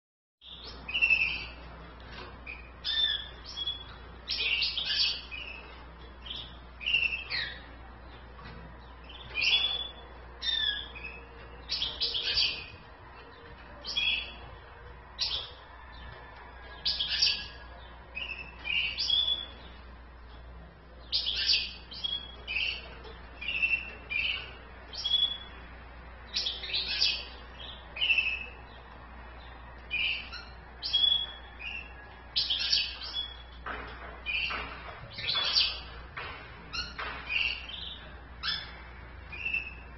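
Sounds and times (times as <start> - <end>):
birds chirping and twittering: 0.4 - 39.9.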